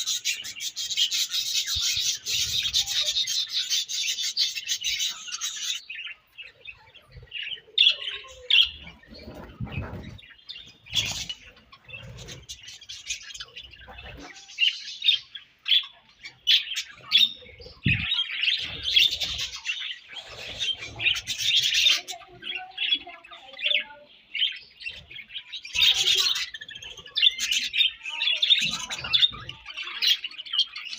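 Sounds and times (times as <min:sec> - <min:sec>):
budgerigars chirping and squawking: 0:00.0 - 0:30.9.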